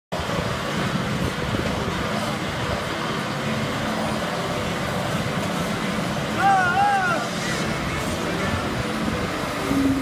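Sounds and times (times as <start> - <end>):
constant rushing noise: 0.1 - 10.0
tractor diesel engines droning: 0.1 - 10.0.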